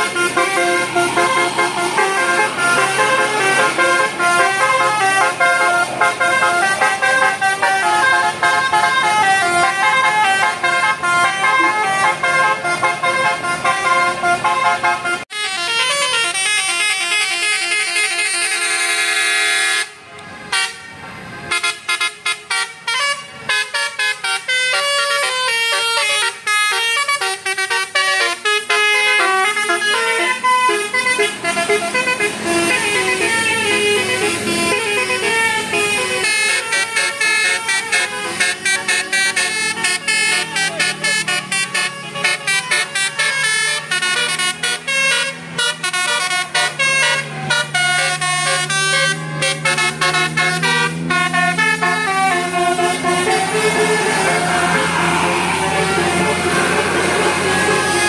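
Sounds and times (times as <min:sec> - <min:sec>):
multi-tone bus air horn tune: 0:00.0 - 0:58.0.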